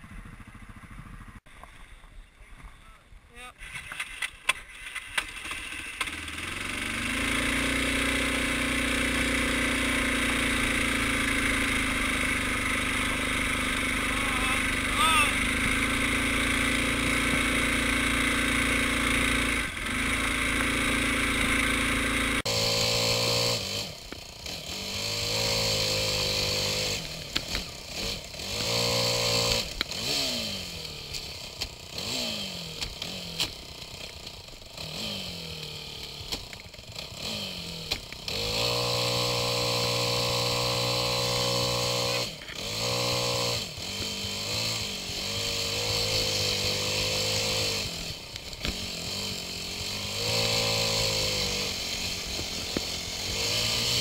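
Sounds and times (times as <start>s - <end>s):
atv engine revving: 0.0s - 1.4s, 3.6s - 54.0s.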